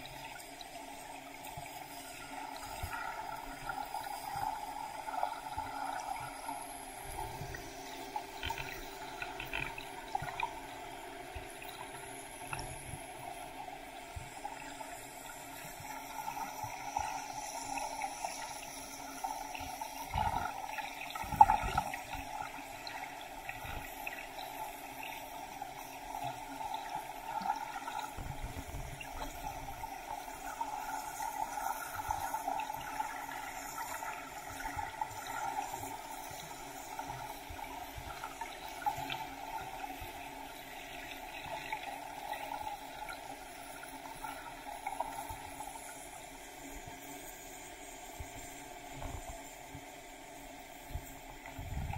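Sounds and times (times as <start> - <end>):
muffled underwater water wash: 0.0 - 51.9.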